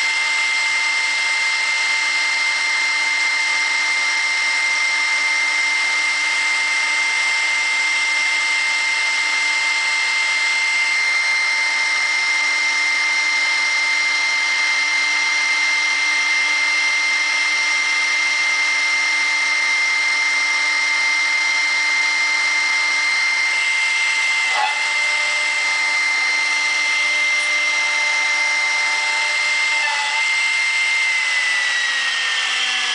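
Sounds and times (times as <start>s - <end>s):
router spindle whine: 0.0s - 32.9s.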